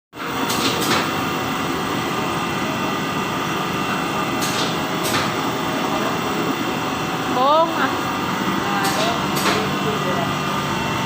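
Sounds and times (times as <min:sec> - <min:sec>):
laminating machine humming: 0:00.2 - 0:11.0.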